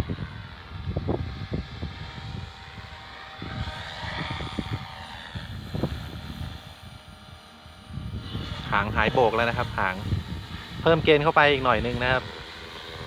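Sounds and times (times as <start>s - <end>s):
rc helicopter rotor whine: 0.0s - 13.0s.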